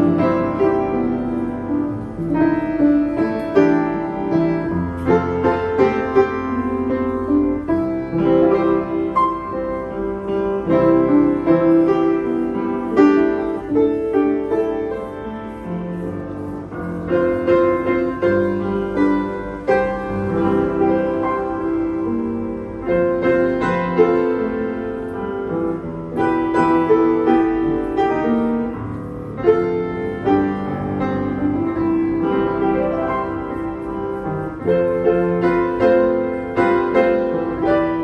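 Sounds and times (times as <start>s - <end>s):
upright piano playing: 0.0s - 38.0s.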